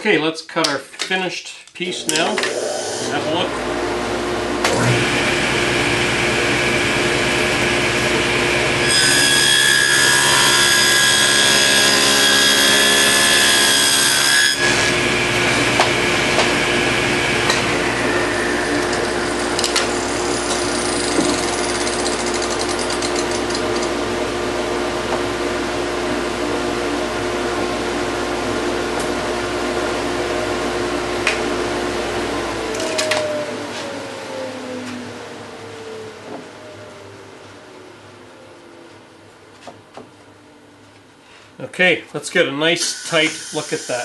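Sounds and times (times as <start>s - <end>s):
table saw running: 1.9s - 36.1s, 42.8s - 44.0s
table saw cutting panel: 1.9s - 36.4s, 42.8s - 44.0s.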